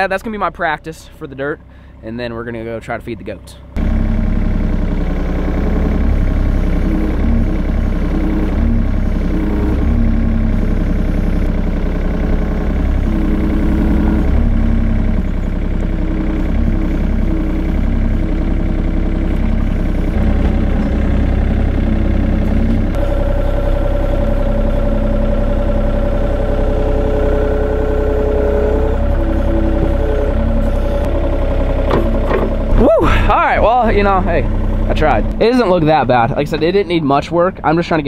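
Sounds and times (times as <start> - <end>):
excavator diesel engine: 0.0 - 38.0.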